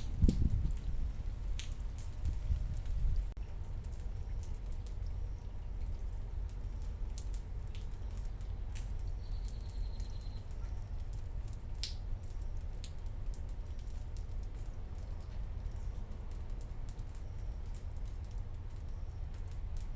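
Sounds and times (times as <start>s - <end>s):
raindrops ticking and dripping: 0.0s - 19.9s
steady low rumble: 0.0s - 19.9s.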